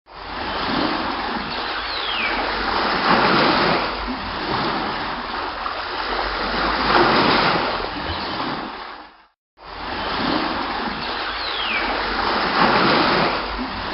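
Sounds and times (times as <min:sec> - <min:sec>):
sea water rushing and splashing: 0:00.1 - 0:13.9.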